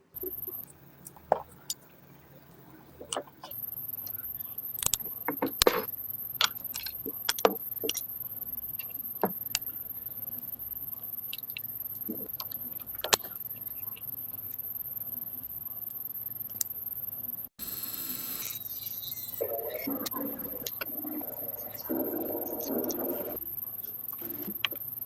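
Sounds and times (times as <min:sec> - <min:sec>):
faint high-pitched whine: 0:00.0 - 0:25.0.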